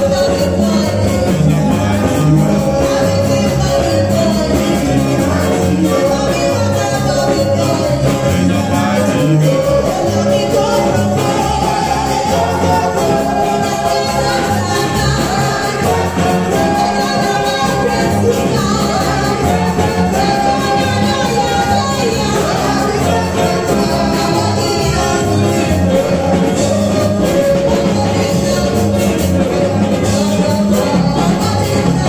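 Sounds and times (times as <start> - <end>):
instrumental accompaniment with beat: 0.0 - 32.0
woman singing gospel into microphone: 0.0 - 32.0.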